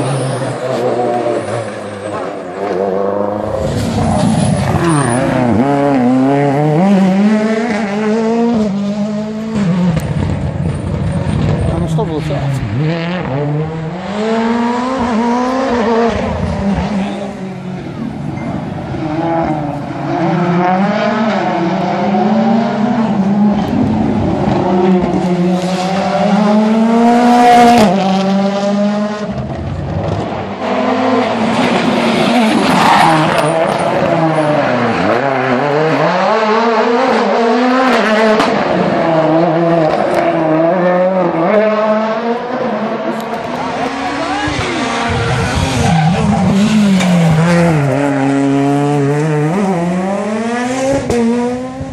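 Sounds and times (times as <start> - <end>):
rally car engines racing: 0.0 - 51.9.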